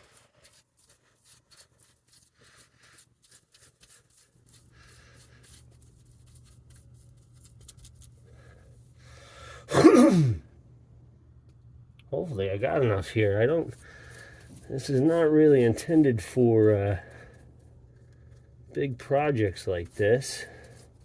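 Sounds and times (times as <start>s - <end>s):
low steady hum: 0.1s - 21.0s.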